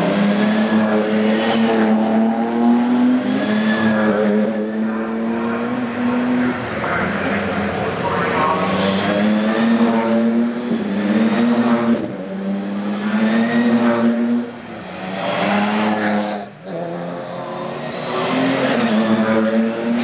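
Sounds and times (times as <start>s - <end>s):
race car engines driving past: 0.0s - 20.0s.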